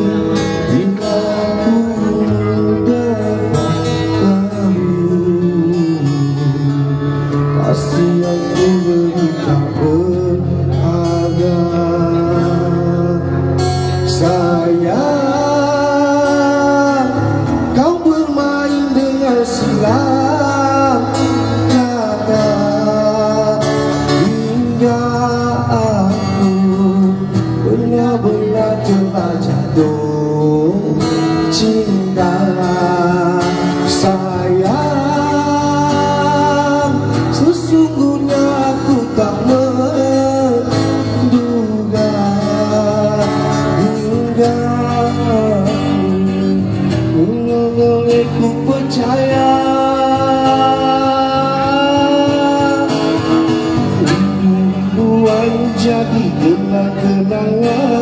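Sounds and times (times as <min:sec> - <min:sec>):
guitar and backing band: 0:00.0 - 0:58.0
man singing into a microphone: 0:00.0 - 0:58.0.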